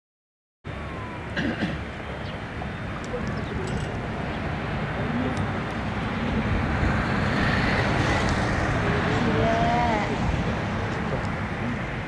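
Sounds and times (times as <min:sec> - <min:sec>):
jet engines rushing: 0:00.7 - 0:12.0.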